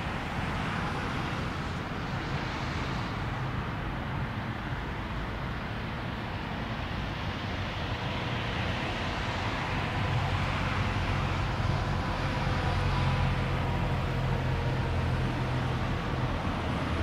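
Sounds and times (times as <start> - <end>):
jet airliner engine rumble: 0.0 - 17.0.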